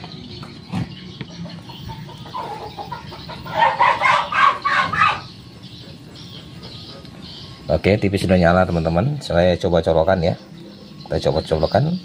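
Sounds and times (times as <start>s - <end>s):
chicken clucking: 0.0s - 12.0s.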